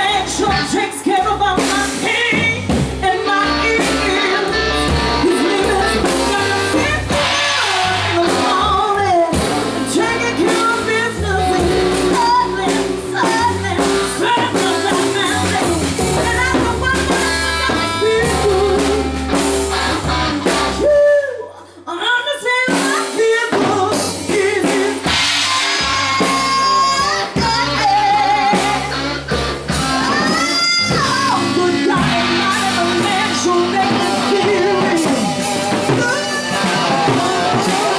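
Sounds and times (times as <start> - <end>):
drum kit: 0.0 - 21.2, 22.6 - 37.9
guitar: 0.0 - 37.9
live band playing: 0.0 - 37.9
person singing: 0.0 - 37.9.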